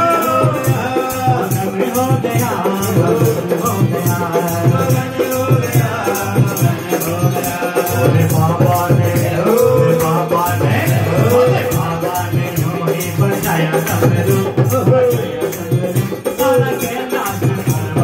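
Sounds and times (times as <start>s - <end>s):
shaker rhythm: 0.0s - 18.0s.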